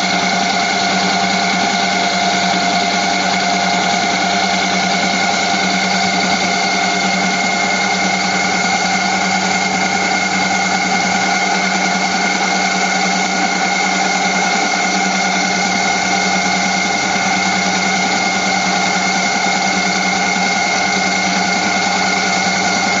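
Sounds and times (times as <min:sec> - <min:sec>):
milling machine whine: 0:00.0 - 0:23.0.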